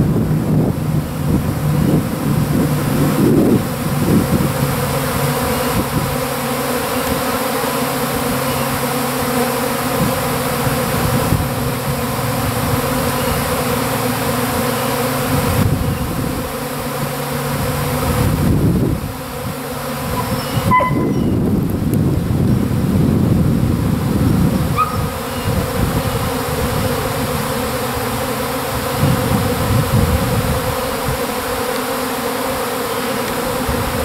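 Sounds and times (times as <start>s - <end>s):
bee swarm buzzing: 0.0s - 34.0s.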